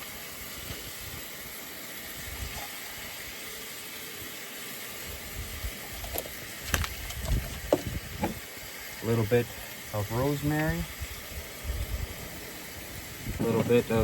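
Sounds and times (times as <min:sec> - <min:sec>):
meat sizzling in a skillet: 0:00.0 - 0:14.0.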